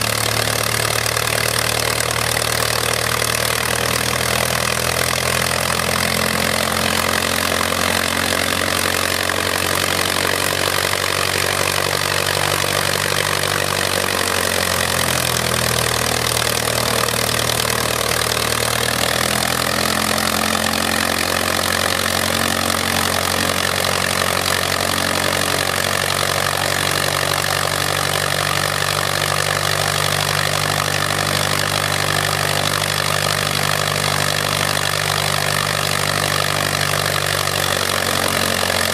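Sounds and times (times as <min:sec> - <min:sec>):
propeller plane engine running: 0:00.0 - 0:38.9.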